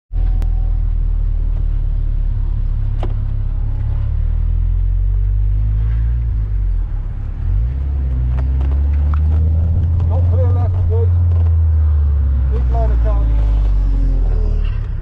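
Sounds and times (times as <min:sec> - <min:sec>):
car engine low drone: 0:00.1 - 0:15.0.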